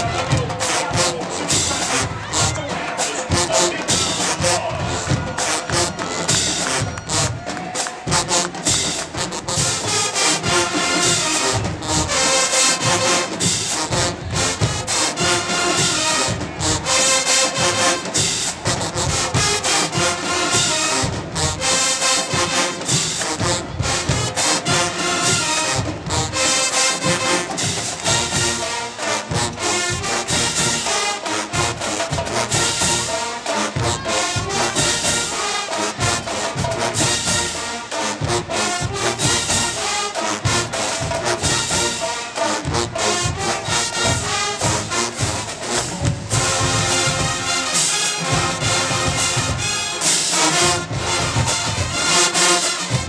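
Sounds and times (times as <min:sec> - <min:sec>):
drumline beat: 0:00.0 - 0:53.0
marching band brass playing: 0:00.0 - 0:53.0.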